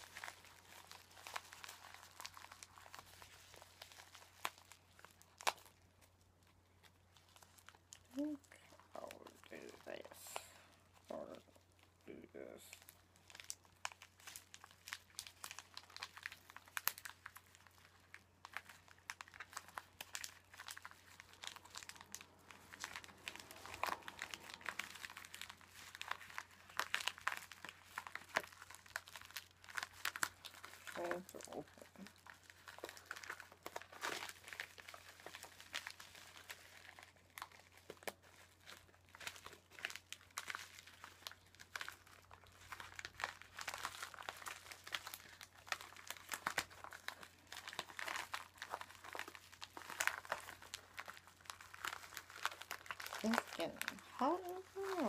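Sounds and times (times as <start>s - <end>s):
plastic packaging crinkling: 0.0s - 55.0s.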